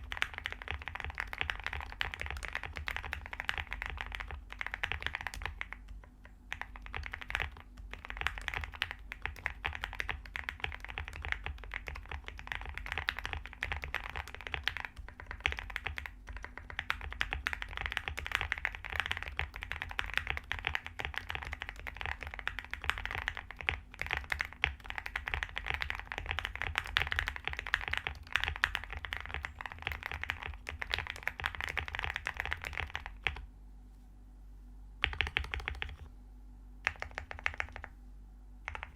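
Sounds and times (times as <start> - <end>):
mechanical keyboard typing: 0.0 - 33.5, 35.0 - 36.1, 36.8 - 38.0, 38.6 - 38.9.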